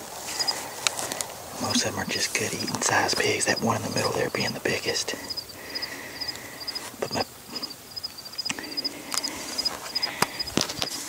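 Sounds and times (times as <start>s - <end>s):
insect chirping: 0.0s - 10.9s.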